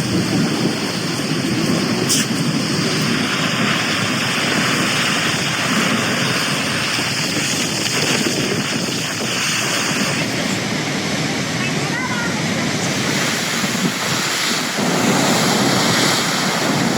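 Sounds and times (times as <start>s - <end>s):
surf breaking on shore: 0.0s - 16.9s
wind buffeting microphone: 0.0s - 16.9s.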